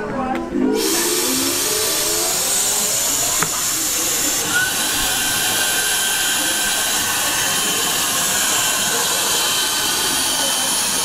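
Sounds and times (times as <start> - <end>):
thin high tone: 0.7 - 11.0
vacuum blower hissing: 0.8 - 11.0.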